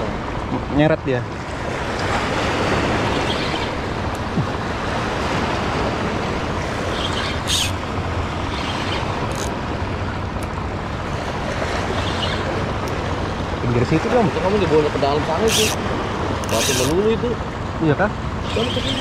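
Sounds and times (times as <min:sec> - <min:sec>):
water sloshing against seawall: 0:01.3 - 0:19.0.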